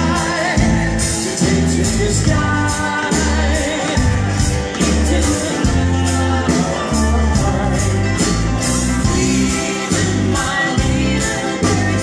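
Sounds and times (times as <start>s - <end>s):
acoustic guitar: 0.0s - 12.0s
bass notes: 0.0s - 12.0s
drums beating: 0.0s - 12.0s.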